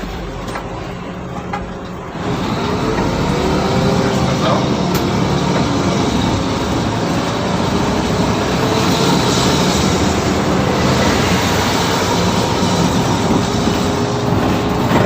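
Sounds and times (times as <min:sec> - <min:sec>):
bus interior engine and road drone: 0:00.0 - 0:15.0.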